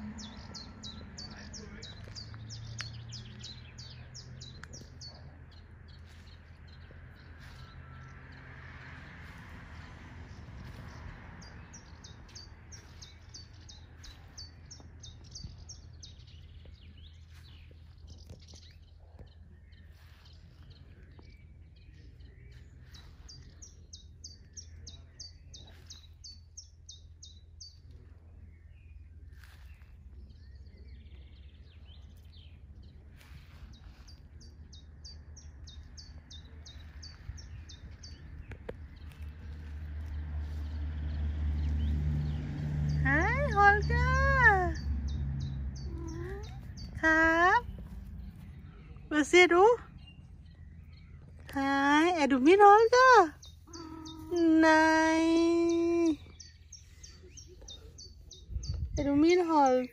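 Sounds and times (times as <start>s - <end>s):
faint low rumble: 0.0s - 43.1s, 44.6s - 52.5s
songbird singing: 0.0s - 59.9s.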